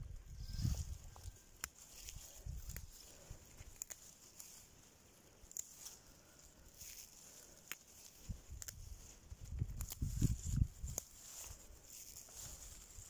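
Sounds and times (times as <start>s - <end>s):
parsley plants rustling: 0.0s - 13.0s
soft clicks of sprigs picked: 0.6s - 13.0s.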